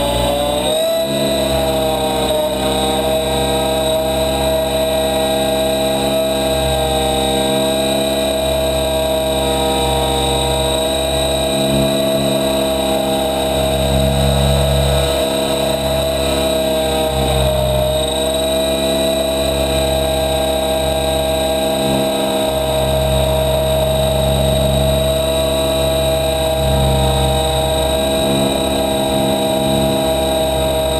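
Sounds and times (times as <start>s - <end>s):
helicopter engine whine: 0.0s - 30.9s.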